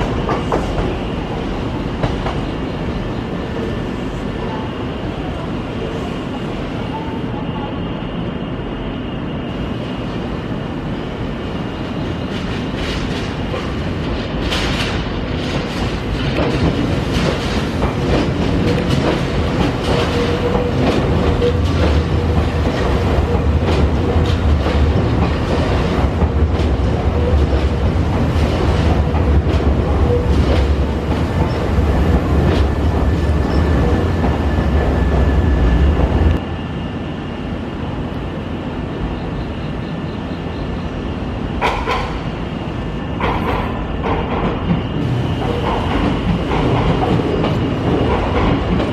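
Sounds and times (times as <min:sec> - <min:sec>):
electric train running slowly: 0:00.0 - 0:48.9.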